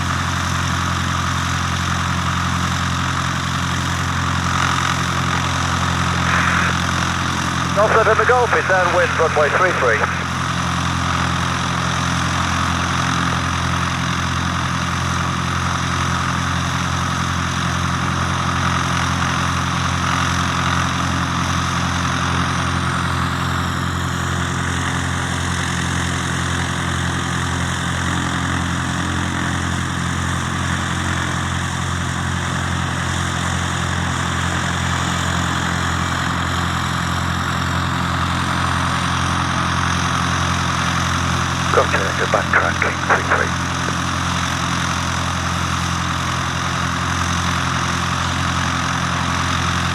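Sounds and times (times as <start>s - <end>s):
propeller plane engine droning: 0.0s - 49.9s.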